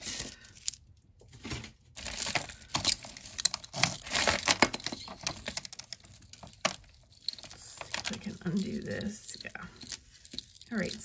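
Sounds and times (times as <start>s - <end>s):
jewelry beads clicking and rattling: 2.0s - 11.0s.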